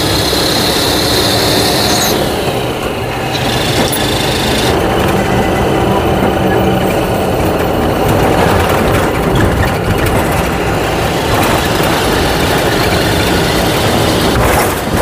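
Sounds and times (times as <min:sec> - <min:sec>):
road noise: 0:00.0 - 0:15.0
rush of noise: 0:00.0 - 0:15.0
truck diesel engine running: 0:00.0 - 0:15.0.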